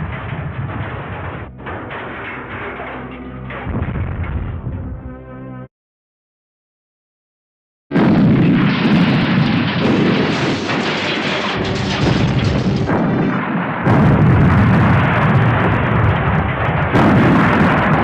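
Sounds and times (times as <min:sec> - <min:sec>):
heavy crashing and smashing: 0:00.0 - 0:04.8, 0:08.0 - 0:18.0.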